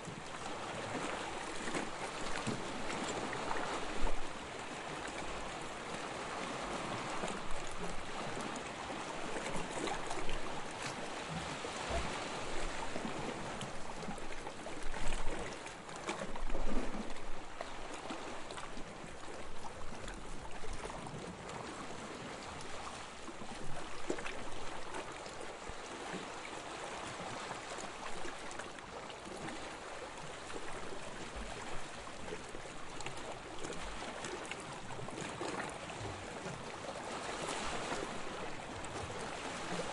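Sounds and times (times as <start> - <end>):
small sea waves lapping: 0.0 - 39.9.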